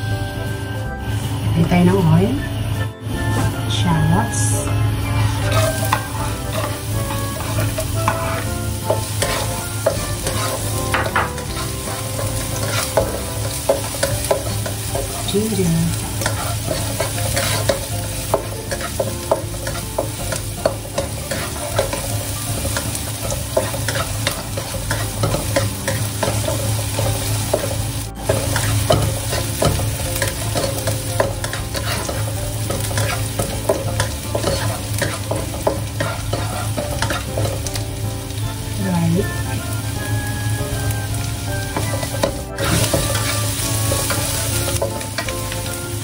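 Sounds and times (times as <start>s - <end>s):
food sizzling in hot oil: 0.0s - 46.0s
spatula scraping and tapping pan: 5.0s - 37.8s, 41.5s - 45.6s.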